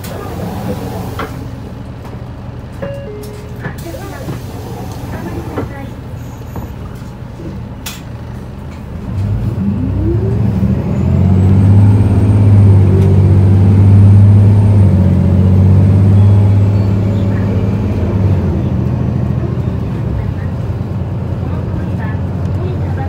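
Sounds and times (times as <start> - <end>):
bus engine accelerating: 0.0 - 23.0.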